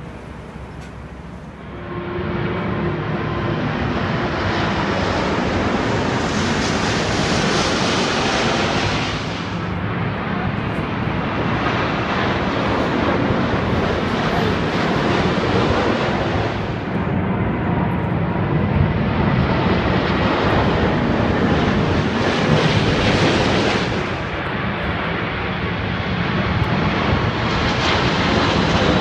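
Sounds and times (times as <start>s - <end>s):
jet airliner passing overhead: 0.0s - 29.0s.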